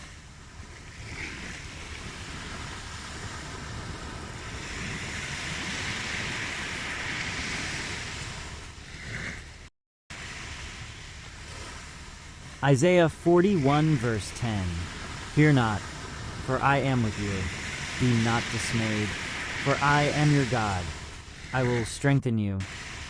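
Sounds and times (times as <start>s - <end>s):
ocean surf washing ashore: 0.0s - 23.0s.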